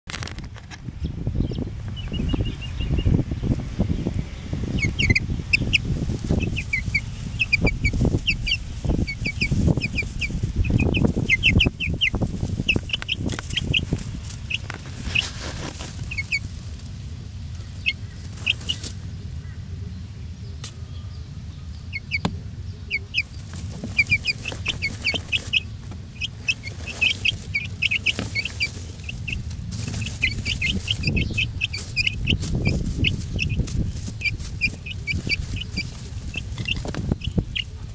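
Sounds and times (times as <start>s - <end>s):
low rumble: 0.1s - 37.9s
chicks cheeping: 0.2s - 37.9s.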